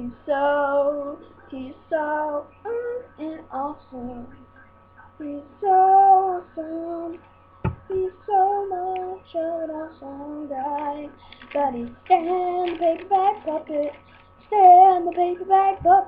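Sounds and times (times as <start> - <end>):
person singing unaccompanied: 0.0 - 4.4, 5.2 - 7.2, 7.8 - 16.0
faint steady hum: 0.0 - 16.0.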